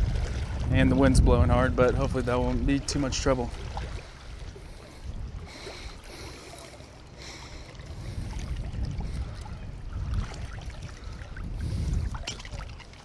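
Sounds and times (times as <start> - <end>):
wind buffeting microphone: 0.0 - 6.5, 7.2 - 13.0
water lapping: 0.0 - 13.0.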